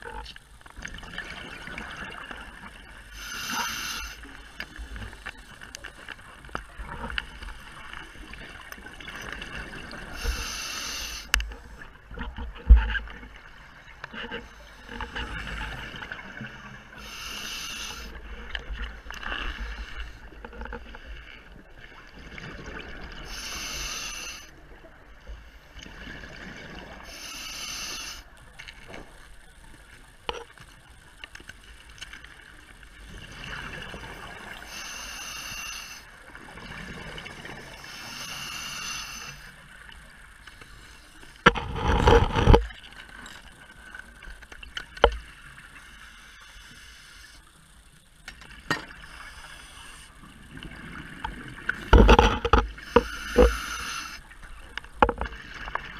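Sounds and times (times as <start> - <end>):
low underwater noise: 0.0 - 55.9.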